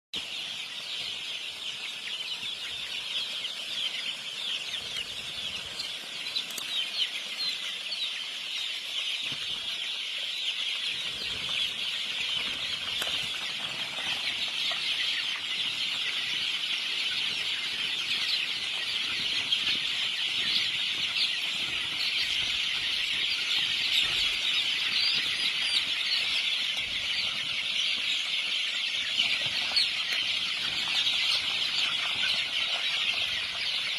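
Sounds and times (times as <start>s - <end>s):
birds chirping in chorus: 0.2s - 33.9s.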